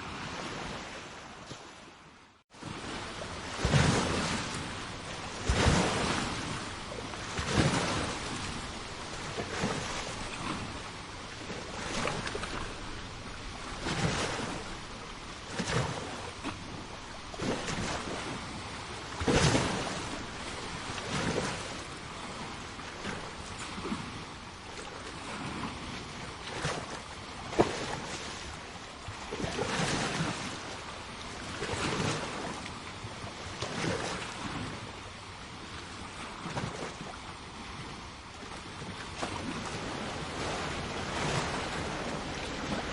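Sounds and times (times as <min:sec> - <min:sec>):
sea waves washing onto shore: 0:00.0 - 0:42.9.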